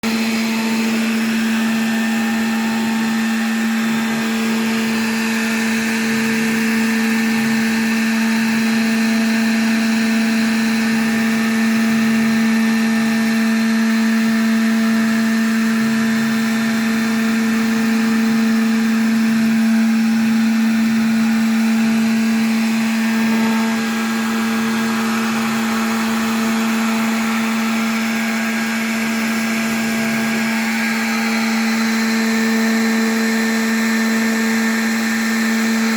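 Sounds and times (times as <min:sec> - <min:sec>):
router spindle humming: 0:00.0 - 0:35.9.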